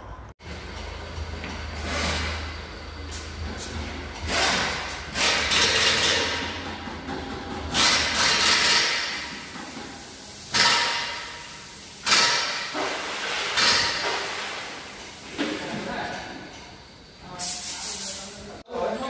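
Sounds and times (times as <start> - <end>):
sudden bursts of workshop noise: 0.4 - 18.0.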